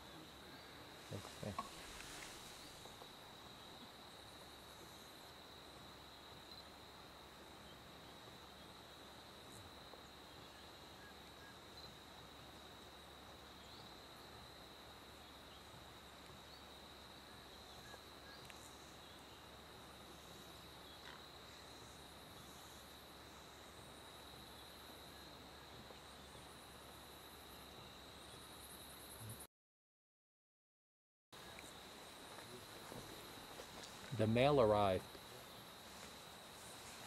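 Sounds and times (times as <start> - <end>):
cricket singing steady high note: 0.0 - 29.5, 31.4 - 37.0.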